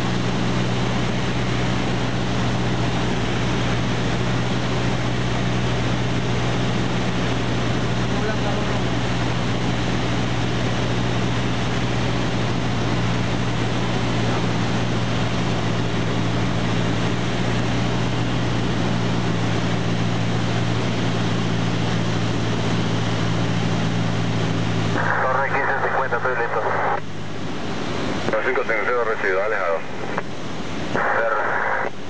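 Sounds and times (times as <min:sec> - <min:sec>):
small plane engine droning: 0:00.0 - 0:32.0.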